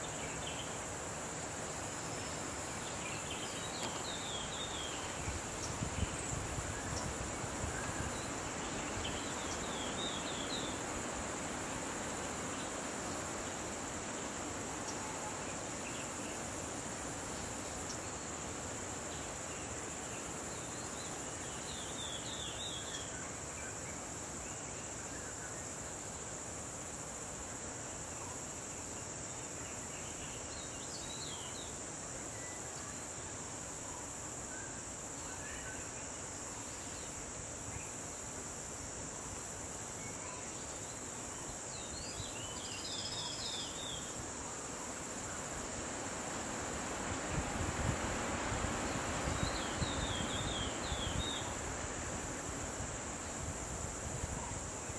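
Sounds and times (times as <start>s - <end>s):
background hiss: 0.0s - 54.9s
insects chirping: 0.0s - 54.9s.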